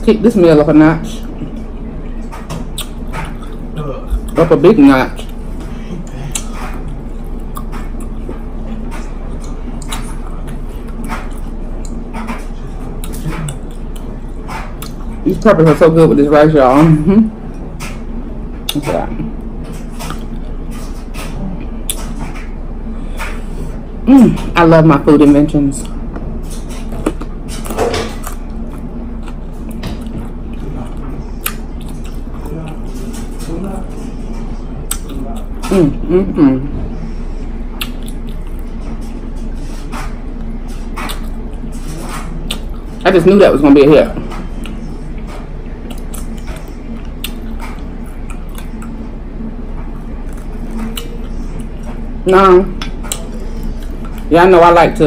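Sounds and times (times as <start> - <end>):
steady low hum: 0.0 - 55.0
crunchy chewing and mouth clicks: 1.1 - 15.4, 17.5 - 23.5, 25.8 - 36.0, 37.8 - 43.0, 44.2 - 54.3.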